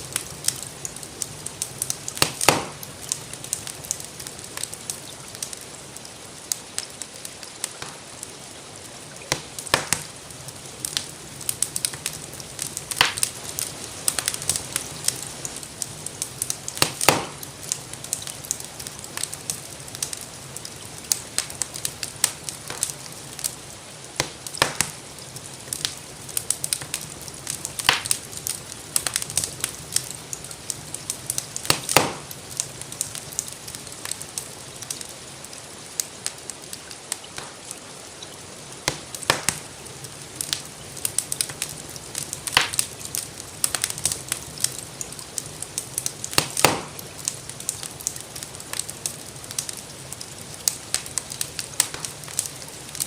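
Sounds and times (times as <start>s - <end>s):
rain hiss: 0.0s - 53.0s
wood fire crackling: 0.0s - 53.0s.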